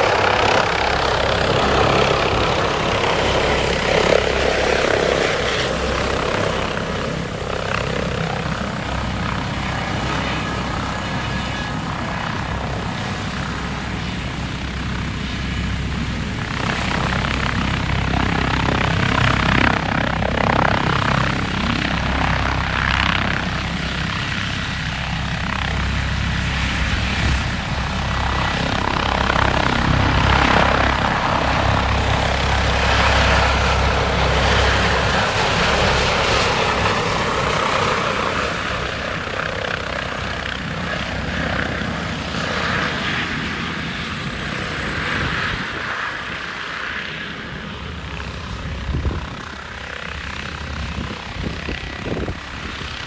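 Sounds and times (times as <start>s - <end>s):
helicopter rotor and turbine noise: 0.0s - 53.0s.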